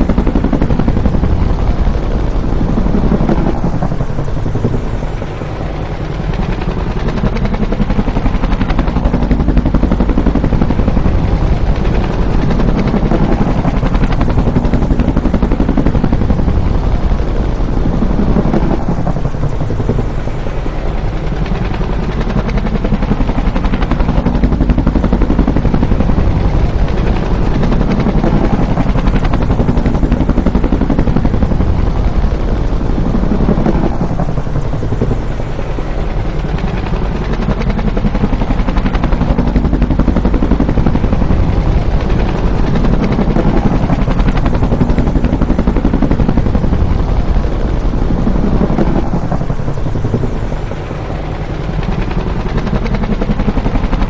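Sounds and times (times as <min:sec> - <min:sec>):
helicopter engine running: 0:00.0 - 0:54.0
helicopter rotor beating: 0:00.0 - 0:54.0.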